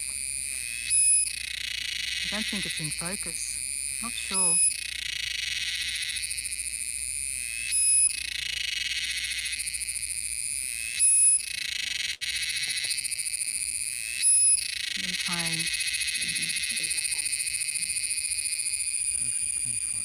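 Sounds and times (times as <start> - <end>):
insect buzzing: 0.0 - 20.0
shrill insect burst: 0.6 - 20.0.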